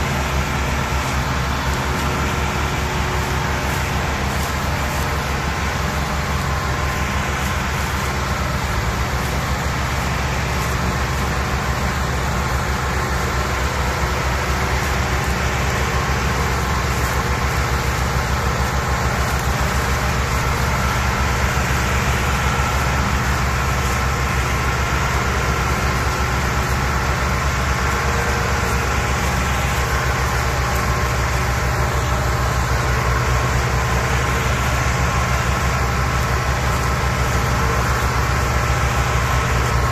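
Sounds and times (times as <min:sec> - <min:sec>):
tractor engine under heavy load: 0:00.0 - 0:39.9.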